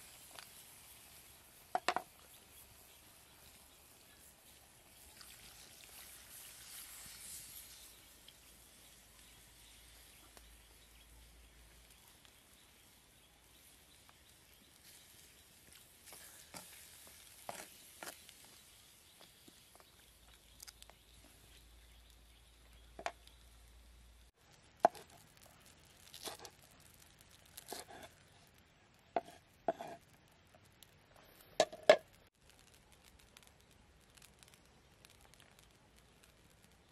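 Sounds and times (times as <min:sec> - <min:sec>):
faint wood fire crackle: 0:00.0 - 0:36.9.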